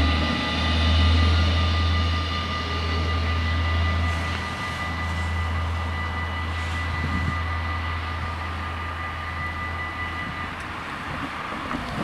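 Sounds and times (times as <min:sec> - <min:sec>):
level crossing warning bells: 0:00.0 - 0:12.0.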